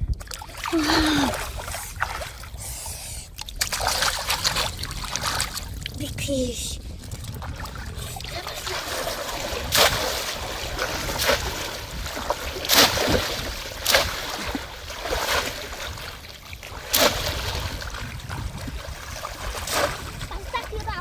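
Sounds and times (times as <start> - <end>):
water splashing: 0.0 - 21.0
water rushing: 0.4 - 21.0.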